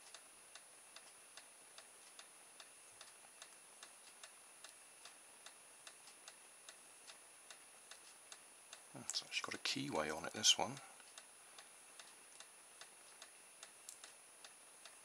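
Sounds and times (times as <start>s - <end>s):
faint high-pitched whine: 0.0s - 15.0s
faint ticking: 0.0s - 15.0s.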